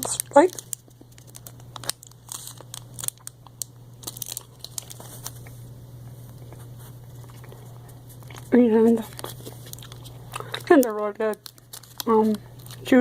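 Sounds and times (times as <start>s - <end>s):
snack wrapper crinkling: 0.0s - 5.6s, 7.2s - 13.0s
steady low hum: 0.0s - 13.0s.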